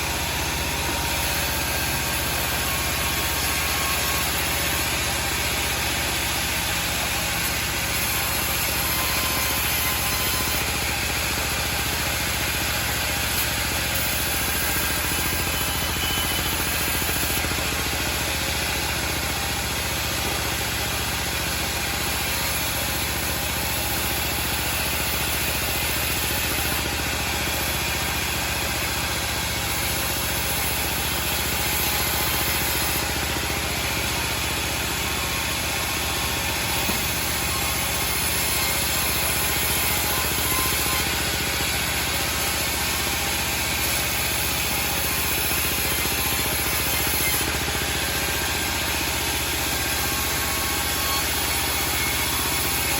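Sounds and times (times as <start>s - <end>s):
band sawmill running: 0.0s - 52.9s.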